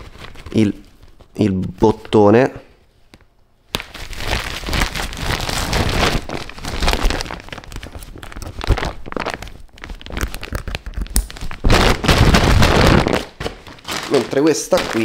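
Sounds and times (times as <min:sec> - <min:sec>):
dry bag crinkling: 0:00.0 - 0:02.2, 0:03.7 - 0:15.0.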